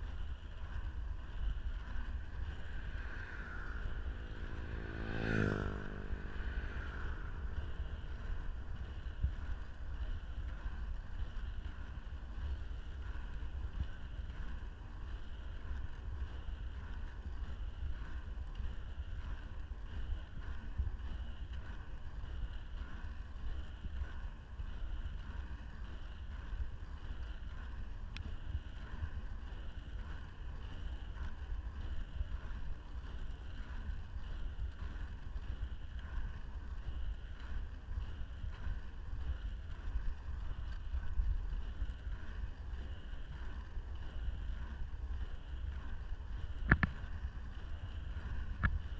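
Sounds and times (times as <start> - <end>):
skate wheels rolling on asphalt: 0.0 - 48.9
wind buffeting microphone: 0.0 - 48.9.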